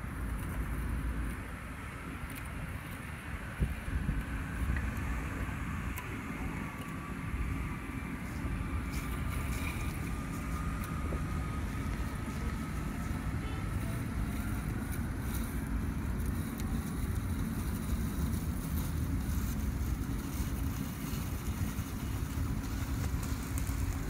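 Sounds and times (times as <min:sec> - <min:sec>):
faint motor whine: 0:00.0 - 0:24.0
wind rumble on microphone: 0:00.0 - 0:24.0.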